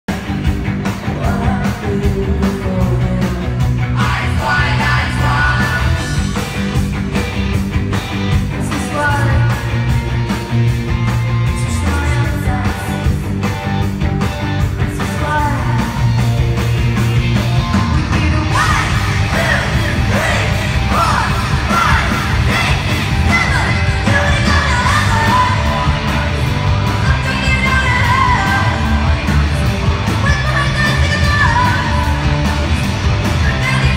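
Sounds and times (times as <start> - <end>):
crowd yelling and singing: 0.1 - 33.9
live rock band playing: 0.1 - 33.9.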